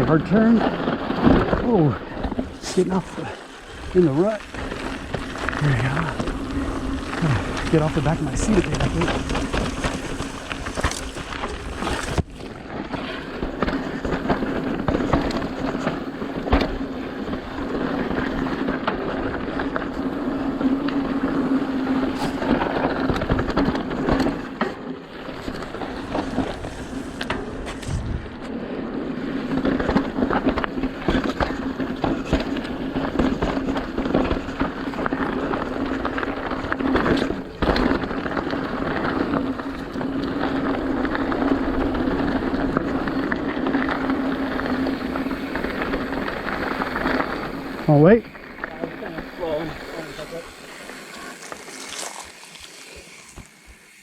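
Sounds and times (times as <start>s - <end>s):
tyres crunching over dirt and rocks: 0.0s - 53.8s
bike chain and frame rattling: 0.0s - 54.0s.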